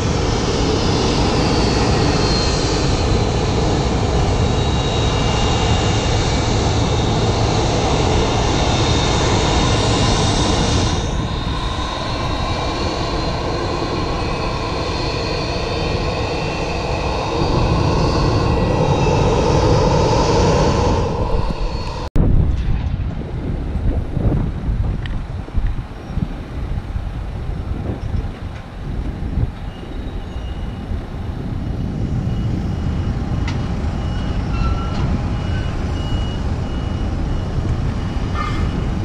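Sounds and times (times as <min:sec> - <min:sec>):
jet engines rumbling with whine: 0:00.0 - 0:39.0.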